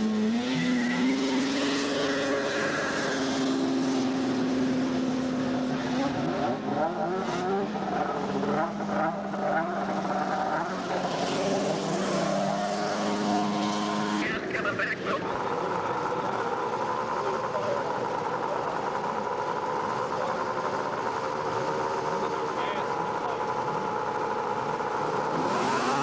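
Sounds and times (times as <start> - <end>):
snowmobile engines at full throttle: 0.0 - 26.0.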